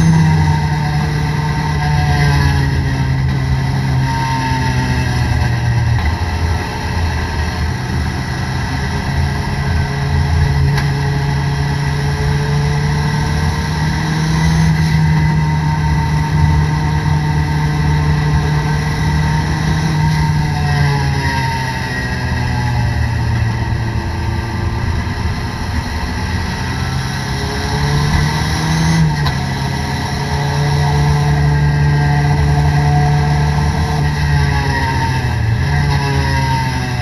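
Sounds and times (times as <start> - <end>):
race car engine from inside: 0.0 - 37.0
road and tyre noise: 0.0 - 37.0.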